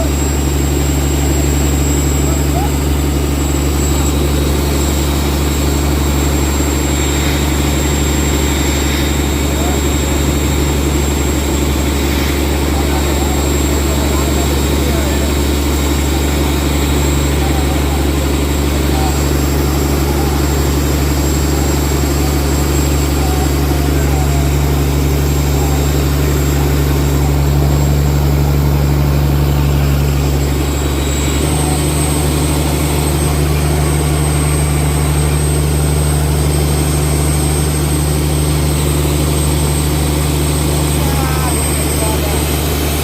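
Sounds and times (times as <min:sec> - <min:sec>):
boat engine droning: 0:00.0 - 0:43.0.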